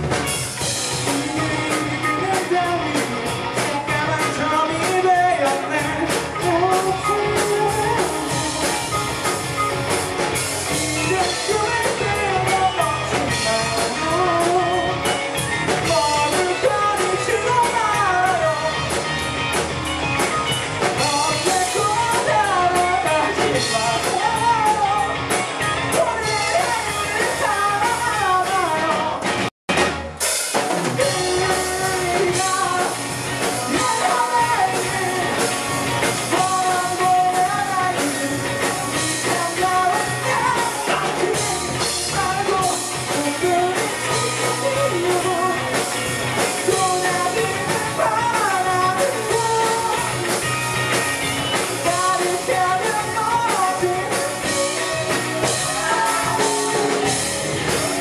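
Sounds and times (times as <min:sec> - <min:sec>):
rock band playing: 0:00.0 - 0:58.0
person singing: 0:00.8 - 0:09.7, 0:10.7 - 0:19.0, 0:20.9 - 0:29.3, 0:30.8 - 0:50.6, 0:51.5 - 0:58.0.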